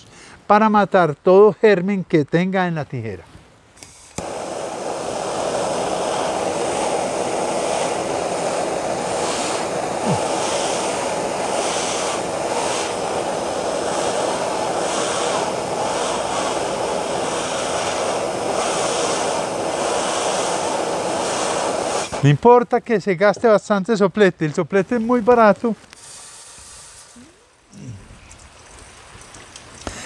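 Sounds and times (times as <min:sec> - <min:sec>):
gas torch flame hissing: 0:03.8 - 0:24.0, 0:24.6 - 0:30.0.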